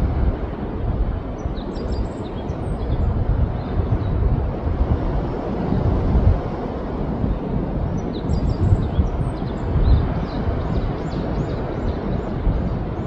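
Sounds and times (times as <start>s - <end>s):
waves: 0.0s - 13.0s
wind: 0.0s - 13.0s.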